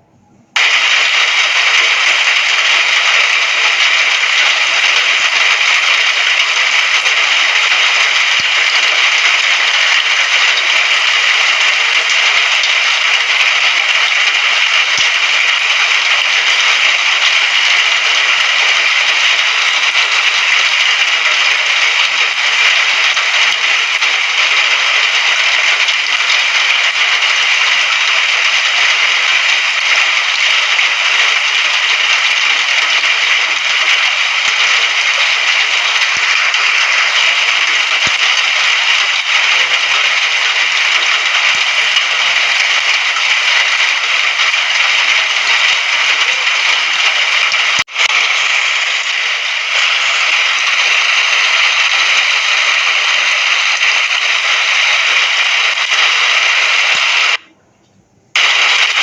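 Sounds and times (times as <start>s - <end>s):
dense rain hissing: 0.6s - 57.4s, 58.4s - 59.0s.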